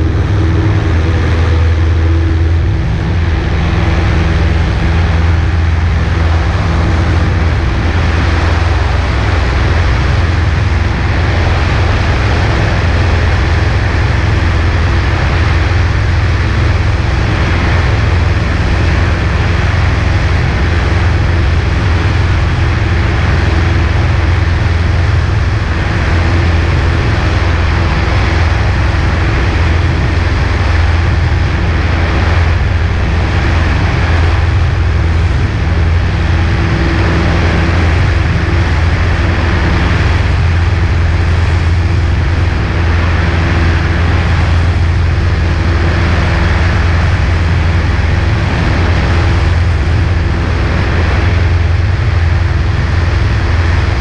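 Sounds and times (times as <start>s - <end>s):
airplane engine droning in flight: 0.0s - 54.0s
rushing air: 0.0s - 54.0s.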